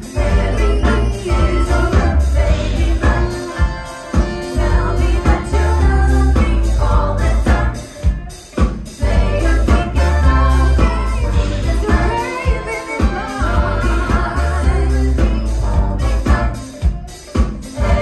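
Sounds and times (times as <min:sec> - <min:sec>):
singers singing together: 0:00.0 - 0:08.2, 0:09.0 - 0:16.8, 0:17.8 - 0:18.0
live band playing: 0:00.0 - 0:18.0.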